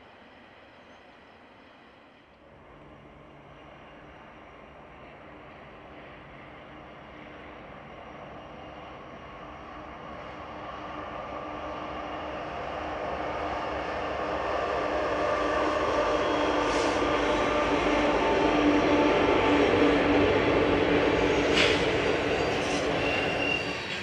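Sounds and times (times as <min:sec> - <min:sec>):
diesel locomotive engines droning: 0:00.0 - 0:24.0.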